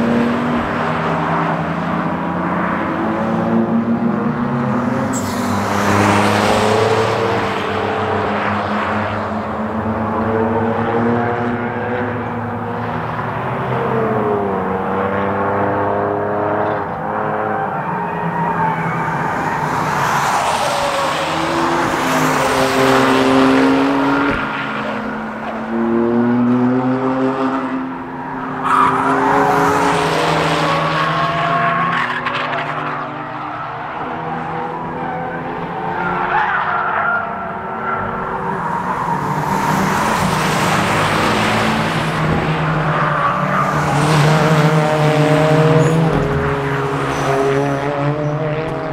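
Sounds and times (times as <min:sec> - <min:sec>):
cars racing through corner: 0:00.0 - 0:48.9.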